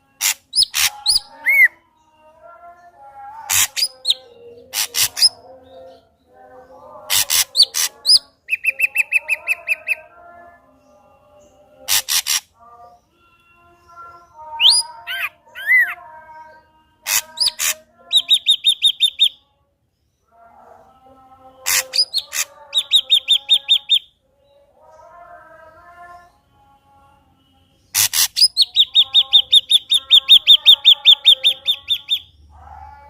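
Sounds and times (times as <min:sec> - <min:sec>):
bird singing varied song: 0:00.0 - 0:33.0.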